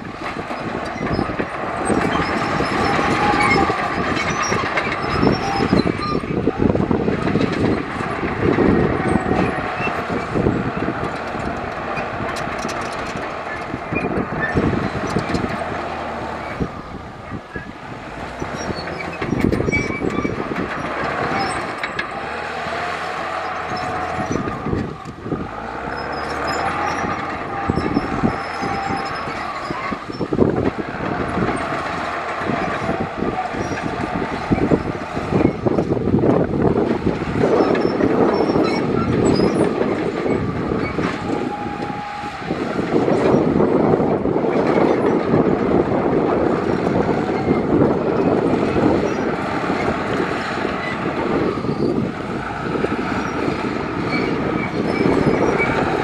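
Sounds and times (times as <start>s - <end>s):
diesel machinery engine running: 0.0s - 56.0s
machinery clanking and rattling: 0.0s - 56.0s.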